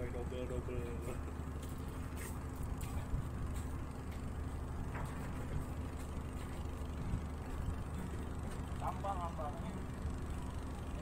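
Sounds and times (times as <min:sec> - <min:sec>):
engine low hum: 0:00.0 - 0:11.0.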